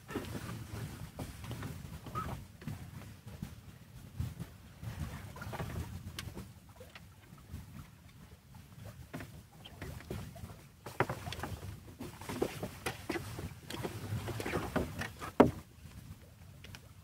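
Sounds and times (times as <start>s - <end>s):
wind and water against hull: 0.0s - 17.0s.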